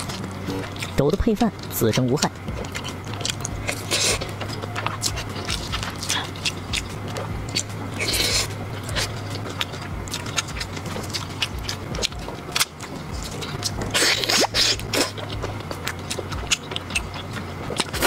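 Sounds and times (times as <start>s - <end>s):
low steady hum: 0.0s - 18.0s
person chewing food: 0.0s - 18.0s.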